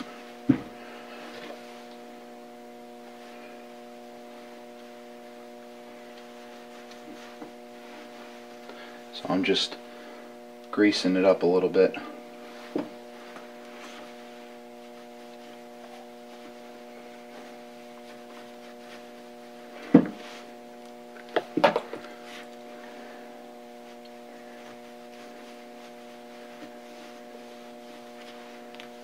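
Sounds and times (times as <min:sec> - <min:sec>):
steady hum of even tones: 0:00.0 - 0:29.0.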